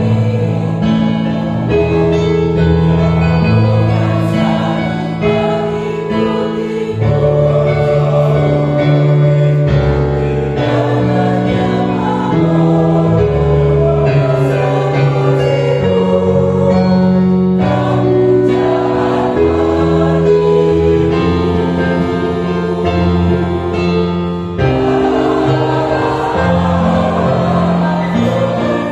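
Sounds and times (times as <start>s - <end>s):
choir singing a hymn: 0.0s - 28.9s
keyboard accompaniment: 0.0s - 28.9s.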